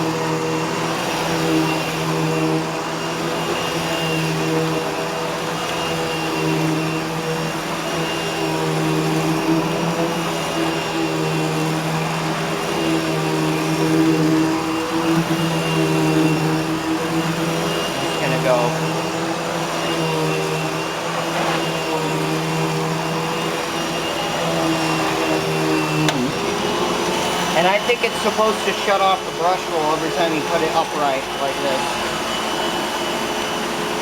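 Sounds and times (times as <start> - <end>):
vacuum cleaner motor humming: 0.0 - 34.0.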